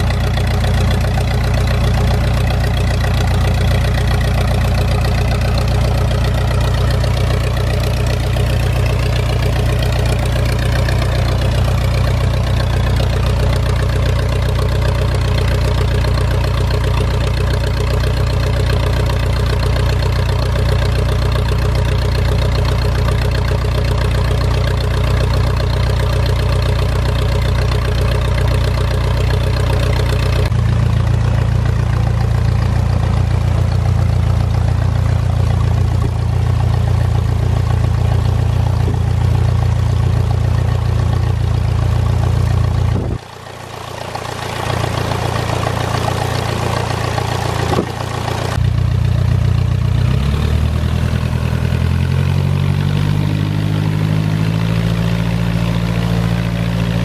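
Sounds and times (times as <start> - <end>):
propeller plane engine idling: 0.0 - 57.0.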